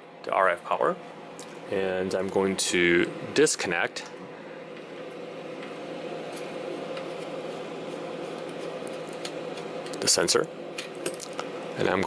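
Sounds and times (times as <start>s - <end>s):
electronics and cooling fans humming: 0.0s - 12.0s.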